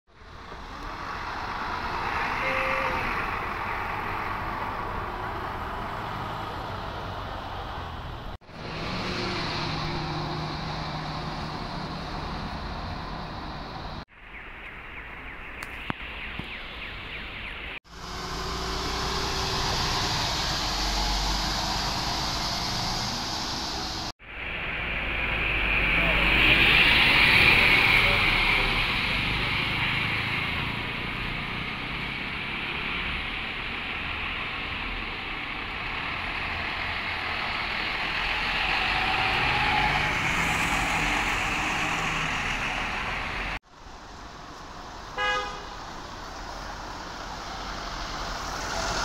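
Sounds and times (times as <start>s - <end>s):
tyre and traffic noise: 0.1s - 49.0s
bus engine running: 3.3s - 14.0s, 17.9s - 49.0s.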